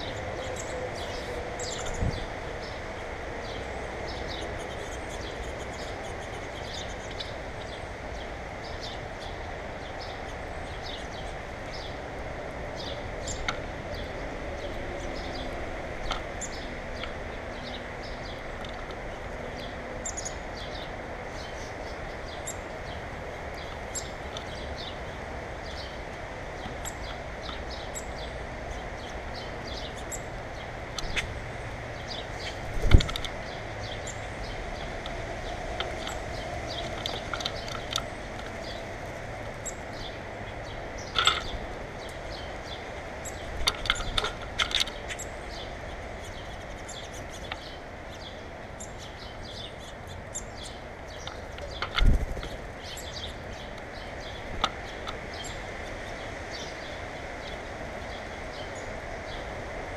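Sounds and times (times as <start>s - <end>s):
birds chirping: 0.0s - 59.9s
outdoor background rumble: 0.0s - 59.9s.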